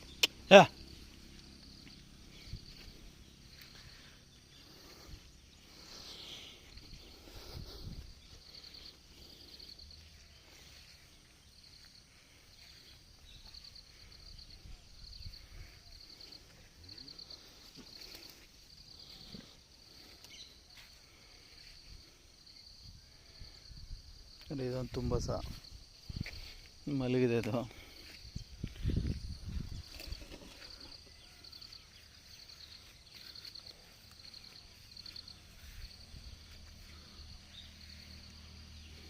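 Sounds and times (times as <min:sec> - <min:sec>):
insects chirping: 0:00.0 - 0:39.0.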